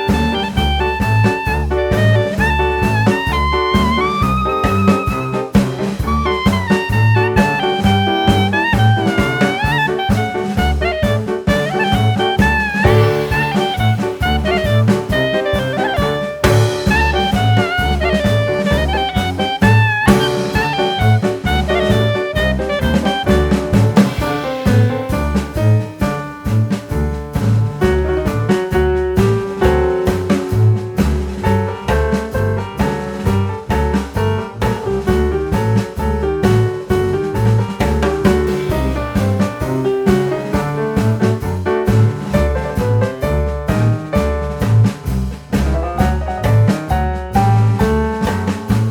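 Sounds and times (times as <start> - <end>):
bass line: 0.0 - 48.9
piano: 0.0 - 48.9
steady beat: 0.0 - 48.9
upbeat jazz swing music: 0.0 - 48.9.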